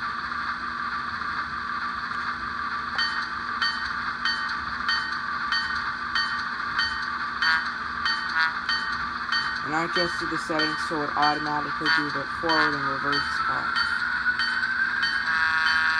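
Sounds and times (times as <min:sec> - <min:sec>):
diesel engine idling: 0:00.4 - 0:15.2
locomotive bell ringing: 0:02.9 - 0:15.9.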